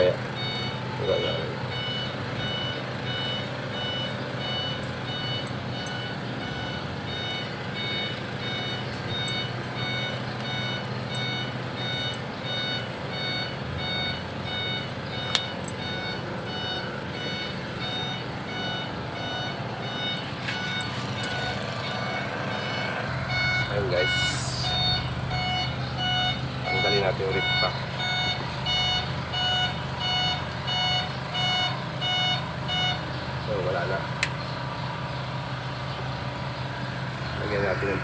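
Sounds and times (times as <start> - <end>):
truck reversing alarm beeping: 0.0 - 38.0.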